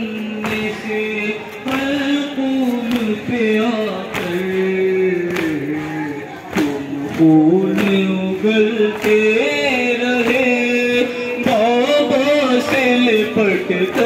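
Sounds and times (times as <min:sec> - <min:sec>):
men chanting a lament: 0:00.0 - 0:14.0
hands slapping on chests: 0:01.7 - 0:14.0.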